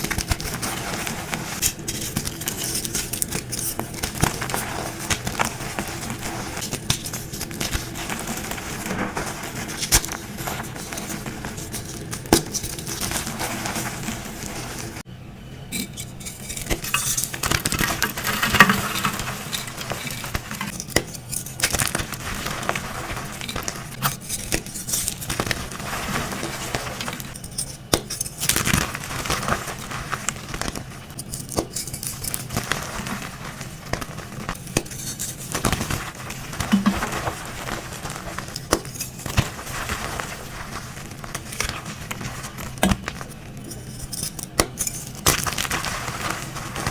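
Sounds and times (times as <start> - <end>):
chalk crunching and crackling: 0.0 - 15.0, 15.8 - 46.9.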